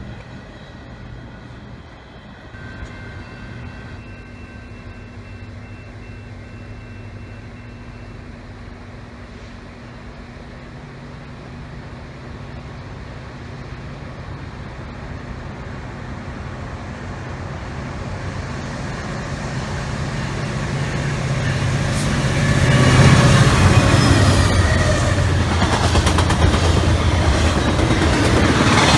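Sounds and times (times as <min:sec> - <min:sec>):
diesel locomotive engines: 0:00.0 - 0:28.9.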